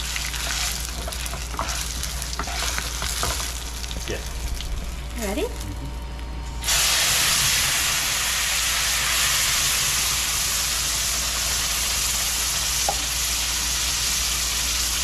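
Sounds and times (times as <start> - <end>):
hot oil sizzling: 0.0 - 5.6, 6.6 - 15.0.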